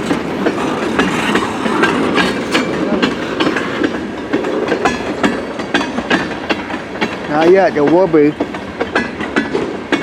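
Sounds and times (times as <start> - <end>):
train rumble: 0.0 - 10.0
train wheels clacking over rail joints: 0.0 - 10.0.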